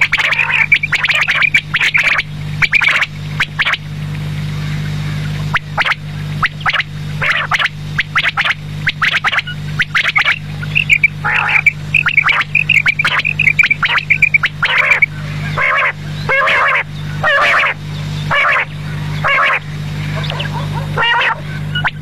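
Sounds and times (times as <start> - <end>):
quail calling: 0.0 - 3.9, 5.4 - 22.0
steady low hum: 0.0 - 22.0.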